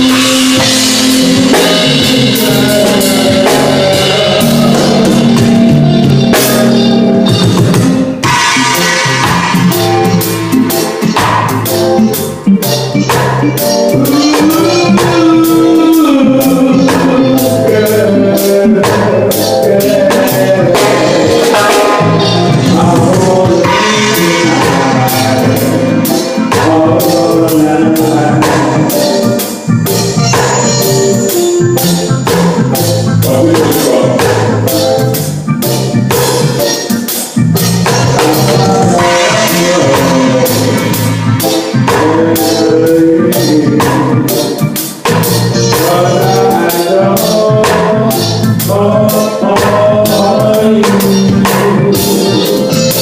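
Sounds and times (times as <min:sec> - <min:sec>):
drum kit beat: 0:00.0 - 0:53.0
live band playing: 0:00.0 - 0:53.0
person singing: 0:00.0 - 0:53.0.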